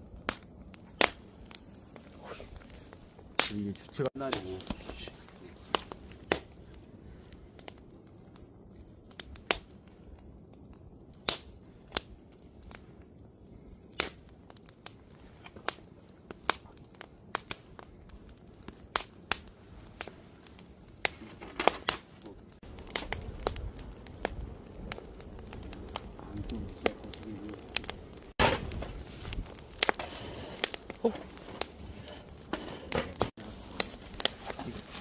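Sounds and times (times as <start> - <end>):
campfire pops and snaps: 0.0 - 35.0
fire hissing: 0.0 - 35.0.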